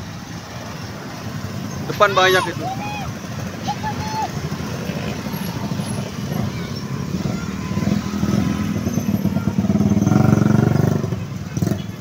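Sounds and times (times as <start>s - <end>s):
motor scooters passing: 0.0s - 12.0s.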